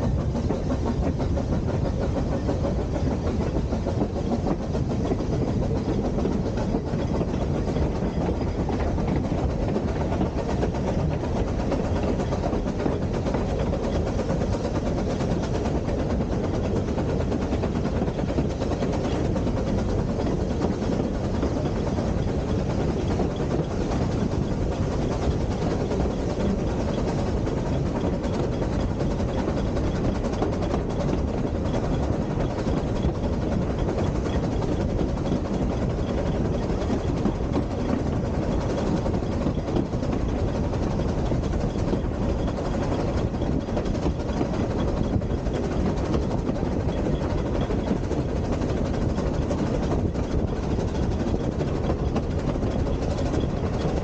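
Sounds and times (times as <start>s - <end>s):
train coach rumbling on rails: 0.0s - 54.0s
wind buffeting microphone: 0.0s - 54.0s.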